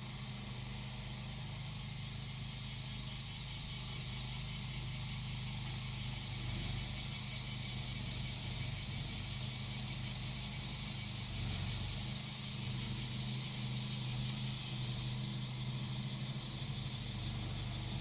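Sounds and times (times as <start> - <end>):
lawn mower engine running: 0.0 - 18.0
cicadas calling: 1.4 - 18.0.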